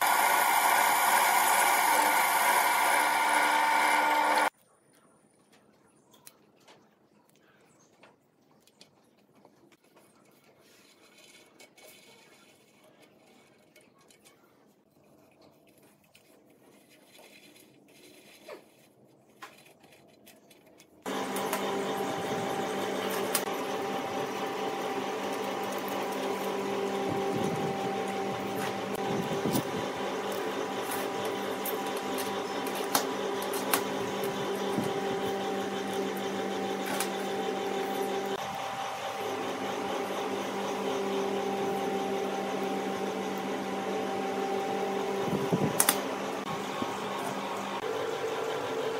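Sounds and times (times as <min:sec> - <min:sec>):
steady mechanical hum: 0:00.0 - 0:04.5, 0:09.6 - 0:48.9.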